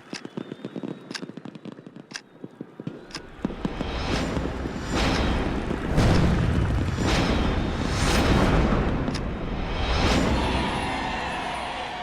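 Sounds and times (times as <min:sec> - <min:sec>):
fireworks bursting and crackling: 0:00.0 - 0:10.4.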